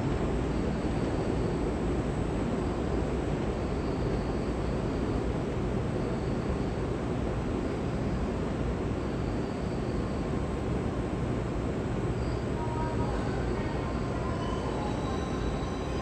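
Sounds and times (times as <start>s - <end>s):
outdoor background rumble and hiss: 0.0s - 16.0s.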